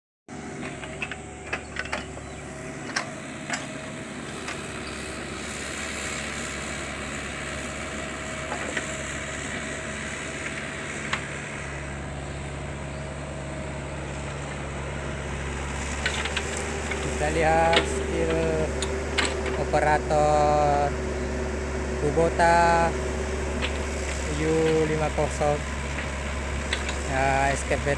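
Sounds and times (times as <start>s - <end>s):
diesel engine running: 0.3s - 27.9s.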